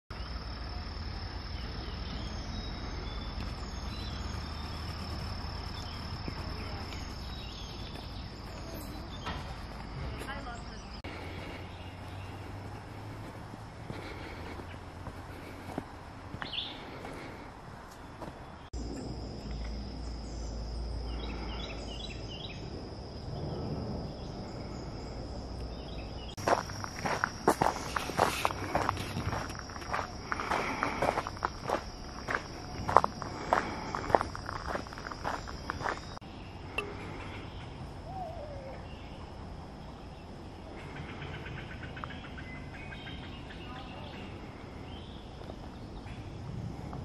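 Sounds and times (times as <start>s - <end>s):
faint chirps: 0.1s - 13.2s, 16.4s - 46.4s
insects droning: 0.1s - 47.0s.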